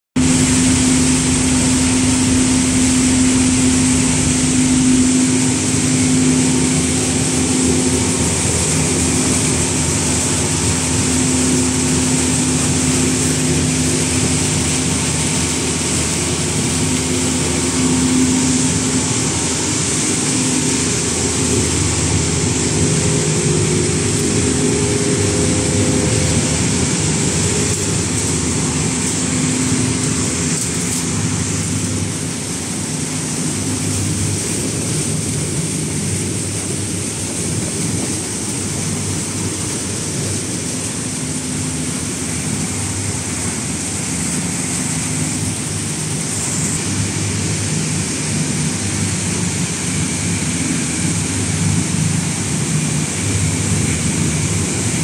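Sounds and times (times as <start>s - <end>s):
low hum: 0.2s - 47.5s
conveyor machinery noise: 0.2s - 55.0s.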